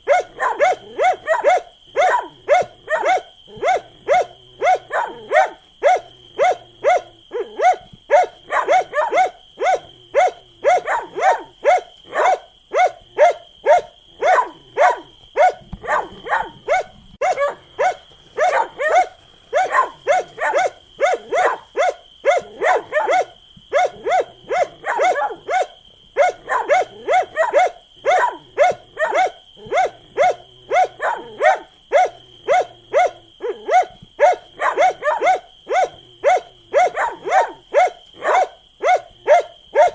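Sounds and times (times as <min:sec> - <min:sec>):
dog barking: 0:00.0 - 0:39.9.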